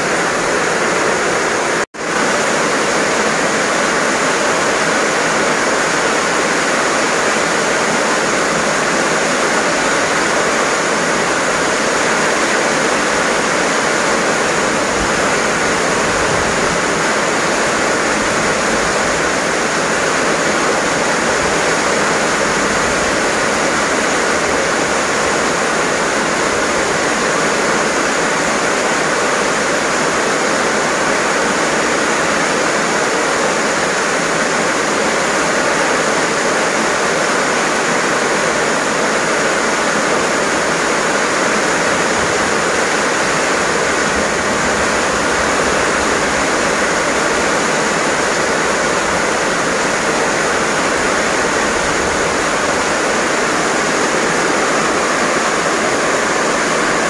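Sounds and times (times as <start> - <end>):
heavy rain on plants: 0.0 - 57.0.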